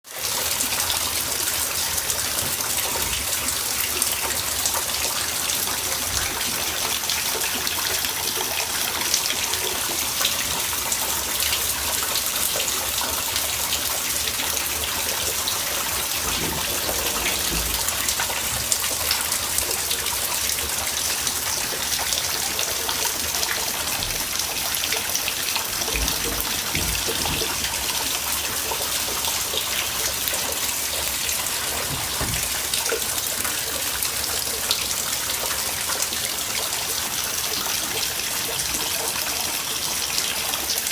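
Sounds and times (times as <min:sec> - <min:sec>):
water running: 0:00.1 - 0:40.9.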